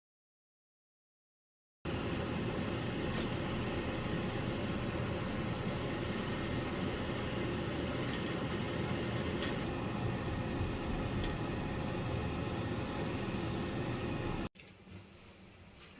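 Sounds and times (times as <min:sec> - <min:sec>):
steady low hum and hiss: 0:01.9 - 0:15.9.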